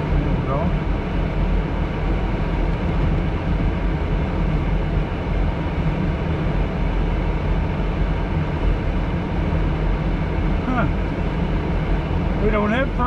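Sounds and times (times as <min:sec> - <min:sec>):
car cabin engine rumble: 0:00.0 - 0:13.0.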